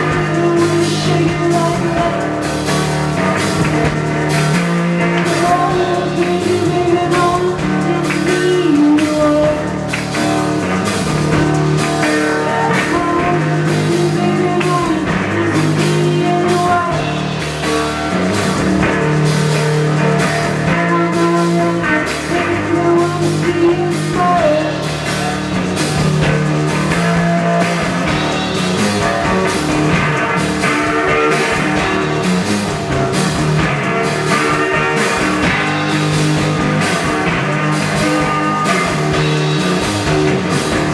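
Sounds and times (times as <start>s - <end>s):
drum kit beat: 0.0s - 40.9s
electric guitar: 0.0s - 40.9s.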